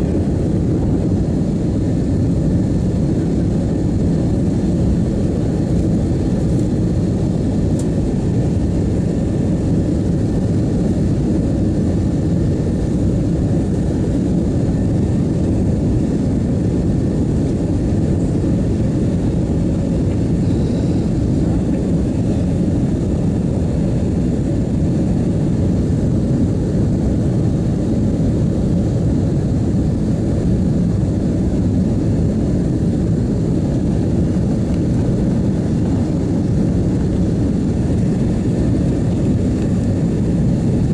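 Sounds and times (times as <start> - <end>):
jet engine rumble: 0.0 - 40.9
rushing air: 0.0 - 40.9.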